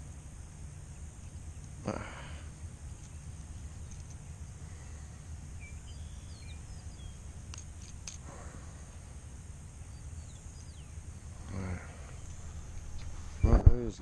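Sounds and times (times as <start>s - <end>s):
faint bird chirps: 0.0s - 14.0s
steady low rumble: 0.0s - 14.0s.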